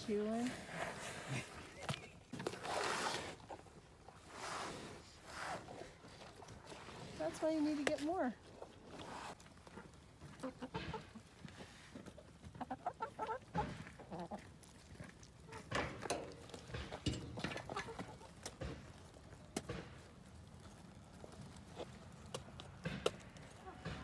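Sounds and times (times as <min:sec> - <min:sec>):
hens clucking: 0:01.2 - 0:04.4, 0:05.5 - 0:24.0.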